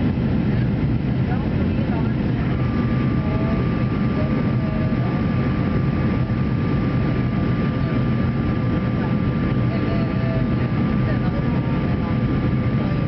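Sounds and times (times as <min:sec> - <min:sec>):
airplane cabin engine noise: 0:00.0 - 0:13.0
thin steady whine: 0:00.0 - 0:13.0.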